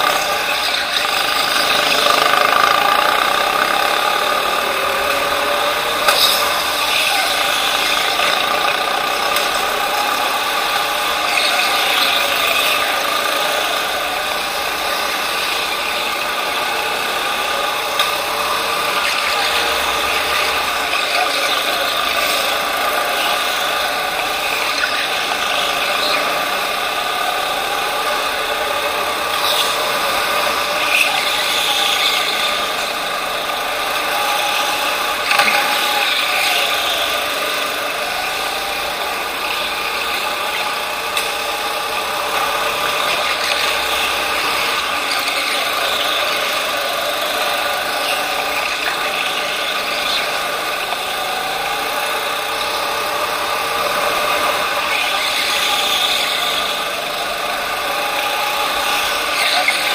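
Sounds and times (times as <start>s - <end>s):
go-kart motor running: 0.0s - 59.9s.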